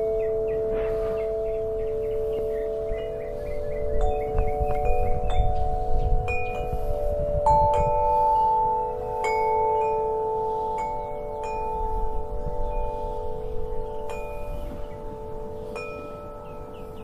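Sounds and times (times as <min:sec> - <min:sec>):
wind chimes ringing: 0:00.0 - 0:17.0.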